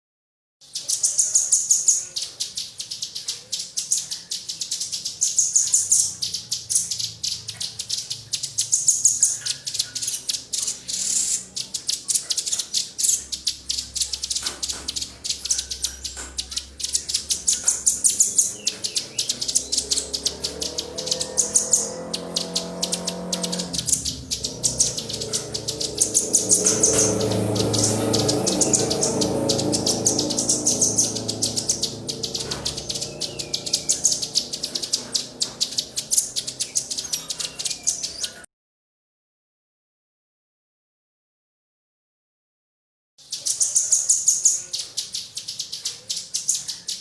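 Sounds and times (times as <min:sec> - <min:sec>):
songbirds chipping: 0:00.6 - 0:38.5, 0:43.2 - 0:47.0.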